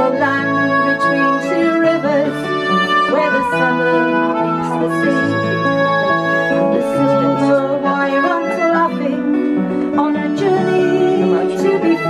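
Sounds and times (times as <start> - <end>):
acoustic guitar strumming: 0.0 - 12.0
harmonica long notes: 0.0 - 12.0.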